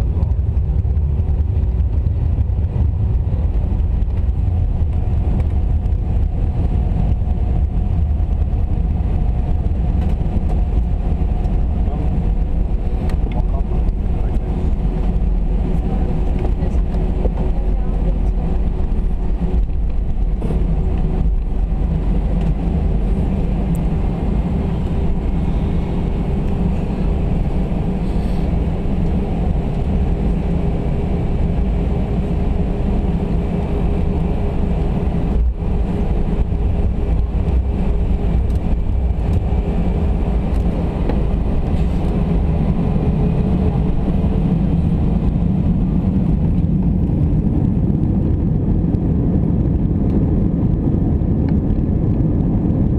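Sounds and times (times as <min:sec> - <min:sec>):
jet engines and airflow rumble: 0:00.0 - 0:52.9.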